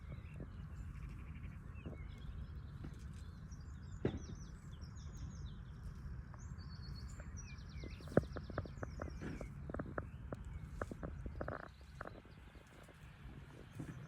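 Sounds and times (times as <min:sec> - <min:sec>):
low steady rumble: 0:00.0 - 0:14.0
small birds singing: 0:00.0 - 0:14.0.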